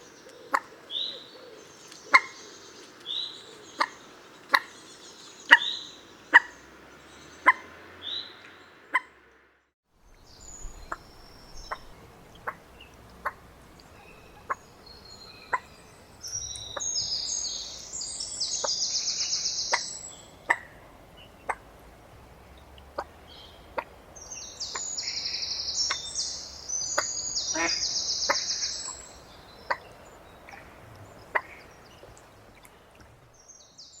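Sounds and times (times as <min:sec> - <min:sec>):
high chattering bird song: 0:00.0 - 0:09.1, 0:10.1 - 0:21.6, 0:22.5 - 0:34.0
moorhen clicking calls: 0:00.0 - 0:09.4, 0:10.2 - 0:33.2.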